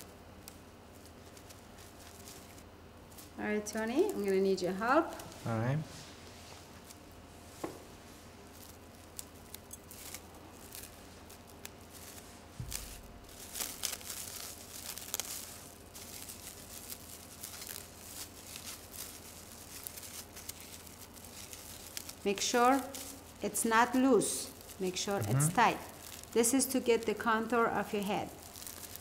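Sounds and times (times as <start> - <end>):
cling film crinkling: 0.0 - 5.5, 8.1 - 29.0.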